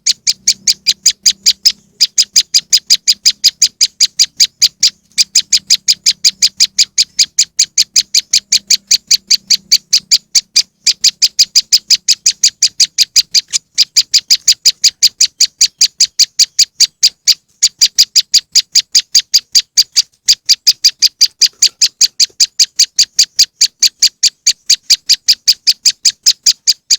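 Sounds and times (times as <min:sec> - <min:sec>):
bird call high ticking notes: 0:00.0 - 0:26.9.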